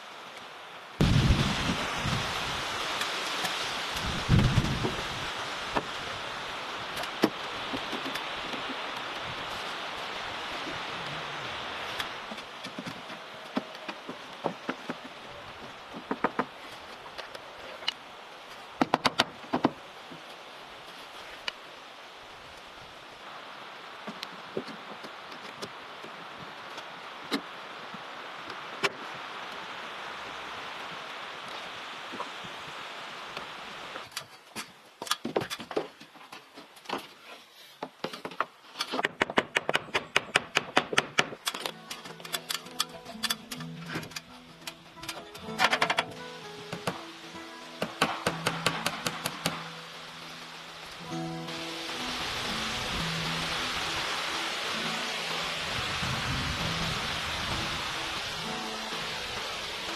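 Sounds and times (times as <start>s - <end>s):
faint steady hiss: 0.0s - 39.1s, 41.4s - 59.9s.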